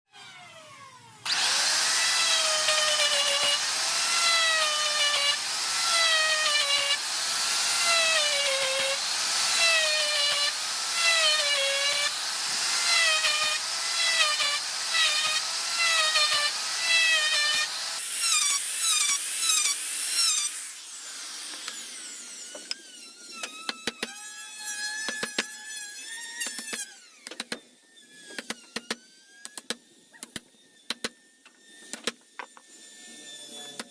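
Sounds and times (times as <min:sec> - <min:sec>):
electric drill boring into wood: 0:00.1 - 0:33.9.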